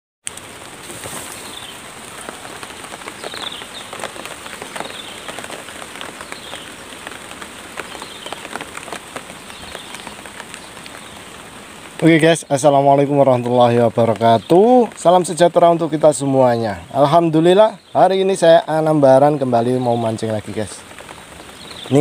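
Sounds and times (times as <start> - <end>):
drizzle pattering on leaves: 0.2 - 22.0.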